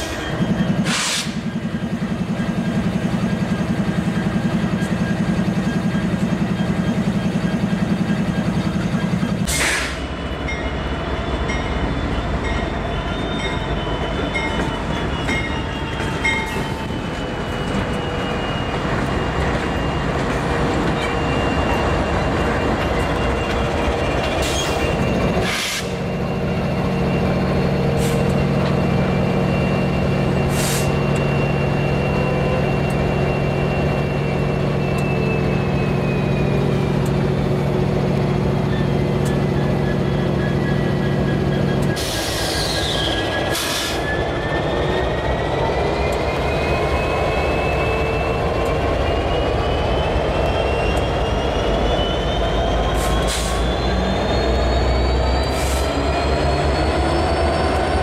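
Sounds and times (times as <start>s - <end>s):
locomotive engine drone: 0.0s - 58.0s
wheels squealing on rails: 0.0s - 58.0s.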